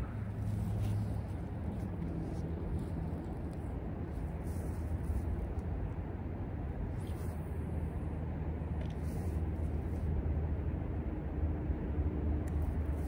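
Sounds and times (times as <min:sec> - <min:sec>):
faint steady hum: 0:00.0 - 0:13.0
low outdoor rumble: 0:00.0 - 0:13.0.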